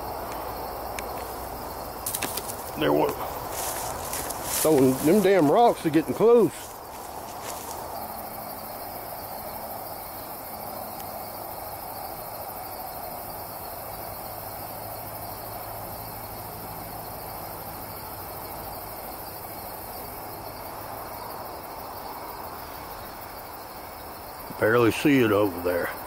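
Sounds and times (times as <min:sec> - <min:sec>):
night insects droning: 0:00.0 - 0:26.0.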